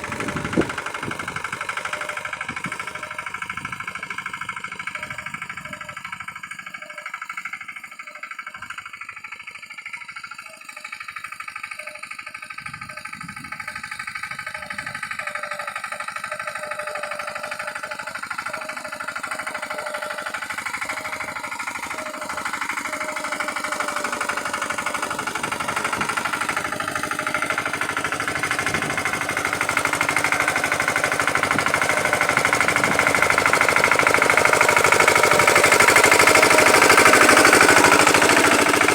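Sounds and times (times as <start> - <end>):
diesel engine clattering: 0.0 - 38.9.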